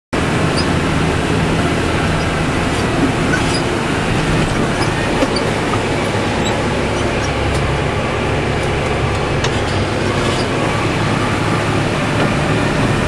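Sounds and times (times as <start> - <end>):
disc mowers cutting grass: 0.2 - 13.0
tractor engine running under load: 0.2 - 13.0.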